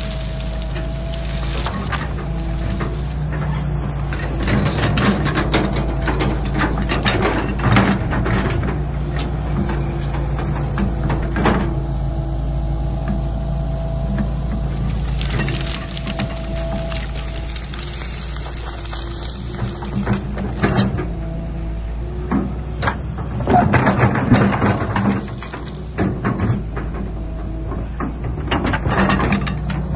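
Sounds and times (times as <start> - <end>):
metal clanks and knocks: 0.0 - 11.8, 14.1 - 21.5, 22.1 - 29.9
excavator engine hum: 0.0 - 29.9.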